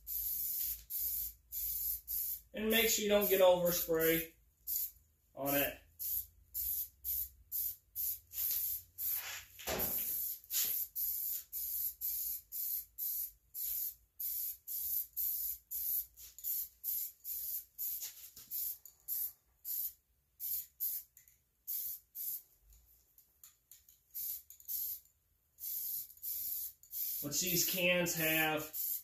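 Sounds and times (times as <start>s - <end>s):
spray paint can hissing: 0.0s - 2.5s, 3.2s - 22.5s, 24.1s - 29.0s.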